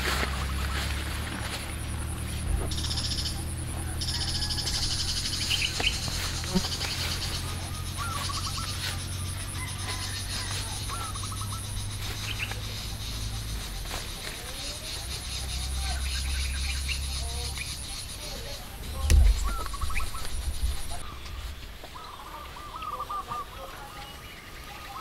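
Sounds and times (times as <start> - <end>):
insects trilling: 0.0 - 25.0
bird chirping: 0.1 - 25.0.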